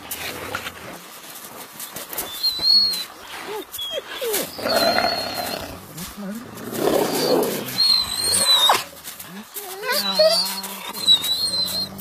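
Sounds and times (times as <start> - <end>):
wolves whining and whimpering: 2.2 - 12.0.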